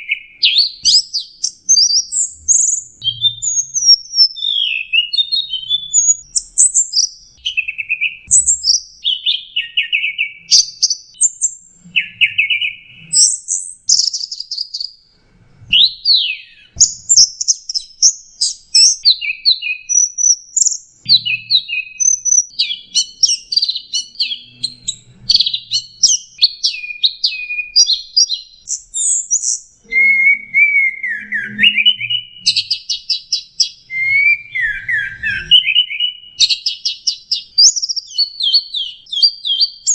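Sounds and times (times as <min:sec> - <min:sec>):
bird singing chirps and trills: 0:00.0 - 0:15.0, 0:15.7 - 0:39.9.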